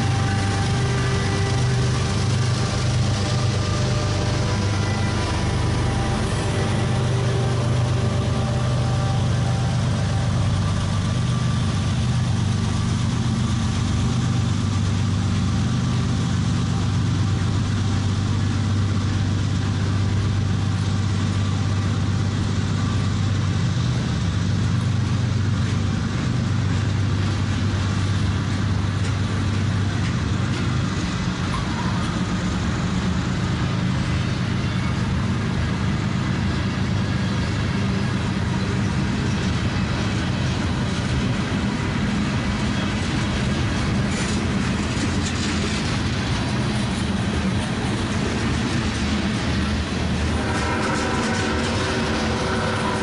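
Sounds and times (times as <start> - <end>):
freight train rolling on rails: 0.0 - 53.0.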